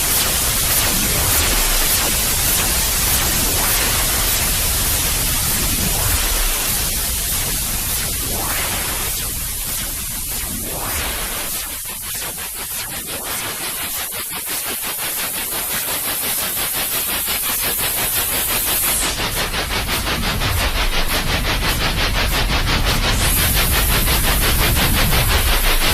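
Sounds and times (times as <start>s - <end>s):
fast even pulsing noise: 0.0s - 25.9s
white noise hiss: 0.0s - 25.9s.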